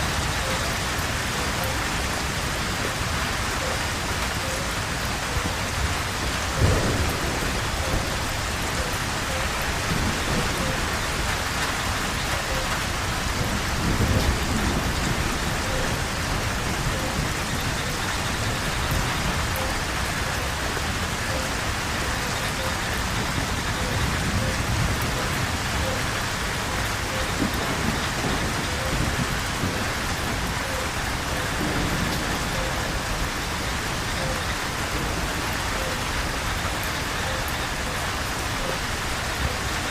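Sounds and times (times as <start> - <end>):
low thunder rumbling: 0.0 - 39.8
heavy rain falling: 0.0 - 39.9.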